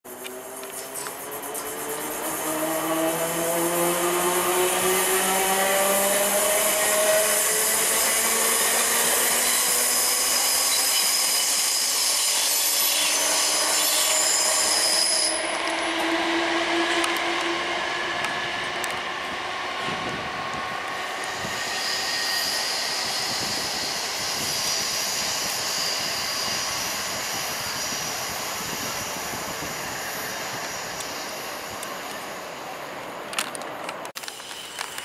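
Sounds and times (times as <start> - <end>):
train traction motors whining: 0.1 - 32.6
wheel-on-rail noise: 0.1 - 35.0.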